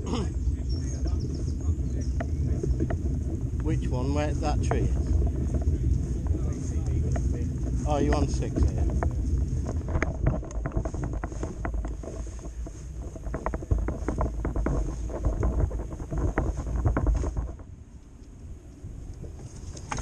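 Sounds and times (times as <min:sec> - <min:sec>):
barrow rumbling over grass: 0:00.0 - 0:17.7
wind buffeting microphone: 0:00.0 - 0:20.0.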